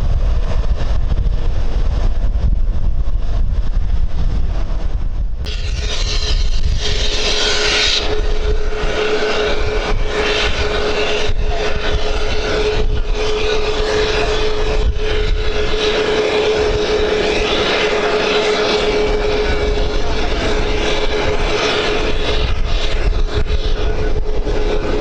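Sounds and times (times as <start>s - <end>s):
airliner engines droning: 0.0s - 25.0s
wind rumble on microphone: 0.0s - 25.0s.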